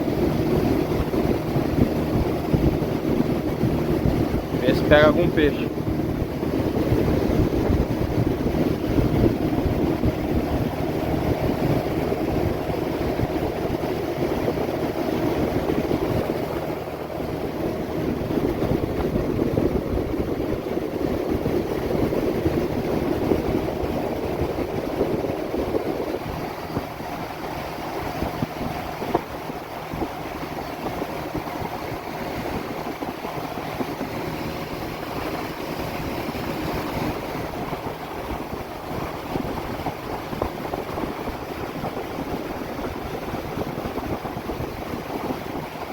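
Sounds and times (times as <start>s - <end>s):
small boat motor running: 0.0s - 45.9s
wind buffeting microphone: 0.0s - 45.9s.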